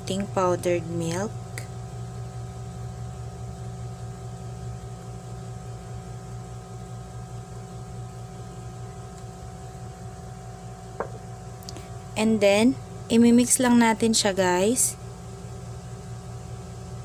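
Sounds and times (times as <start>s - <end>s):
room hum with fixed tones: 0.0s - 17.0s.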